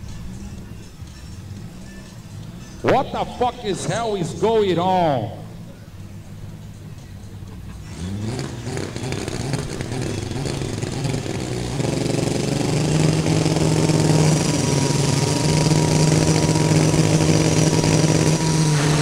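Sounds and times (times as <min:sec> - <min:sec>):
car engine accelerating through gears: 0:01.4 - 0:19.0.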